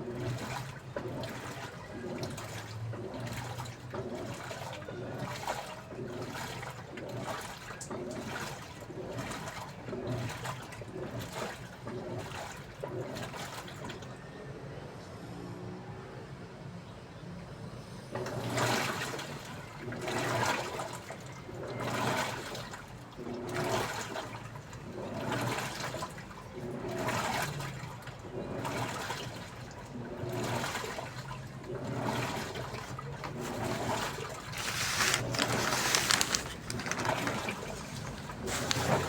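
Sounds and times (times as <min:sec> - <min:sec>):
washing machine water swishing: 0:00.0 - 0:14.1, 0:18.1 - 0:39.0.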